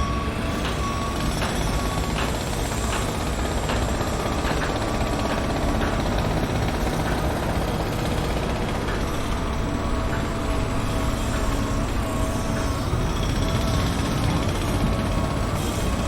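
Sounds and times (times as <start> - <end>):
heavy engine rumbling: 0.8 - 16.0.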